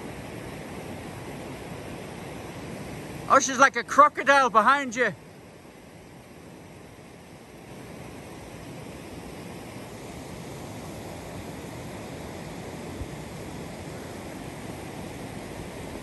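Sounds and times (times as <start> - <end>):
river water rushing over stones: 0.0 - 16.0.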